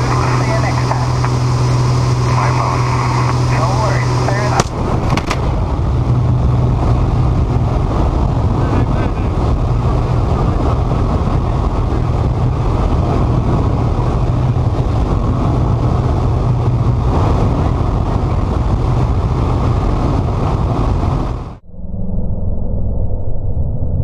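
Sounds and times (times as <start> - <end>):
aircraft engine drone in cockpit: 0.0 - 24.0.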